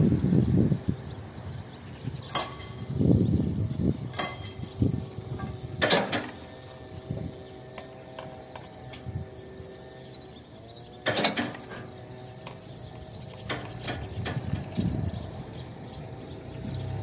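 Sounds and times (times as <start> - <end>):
faint steady tones: 0.0 - 17.0
crossing barrier mechanism clanking: 2.1 - 3.2, 3.8 - 17.0.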